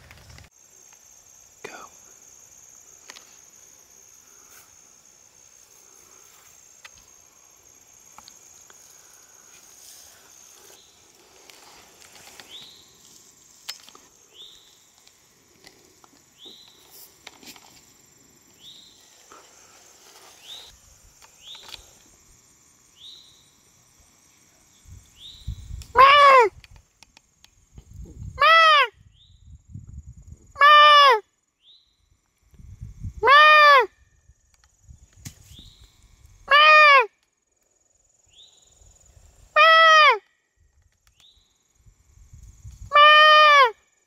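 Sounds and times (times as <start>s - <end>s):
high-pitched insect buzz: 0.0s - 44.0s.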